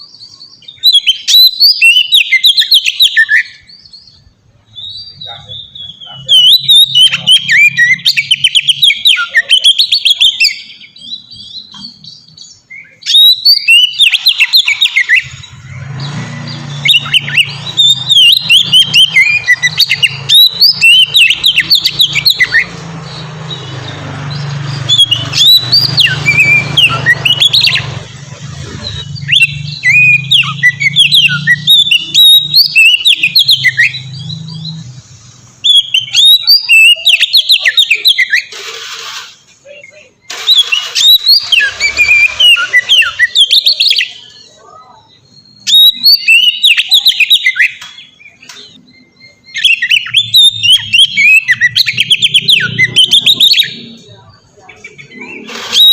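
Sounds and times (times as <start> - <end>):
bird singing whistles and chirps: 0.0 - 39.0, 39.6 - 55.9.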